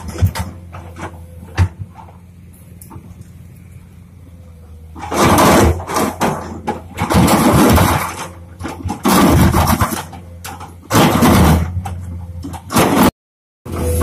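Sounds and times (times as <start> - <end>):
diesel engine running: 0.0 - 13.1, 13.7 - 14.0.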